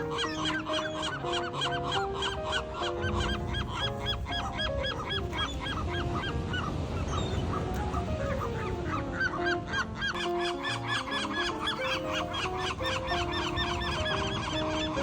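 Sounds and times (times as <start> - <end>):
background music: 0.0 - 15.0
seagulls squawking: 0.0 - 15.0.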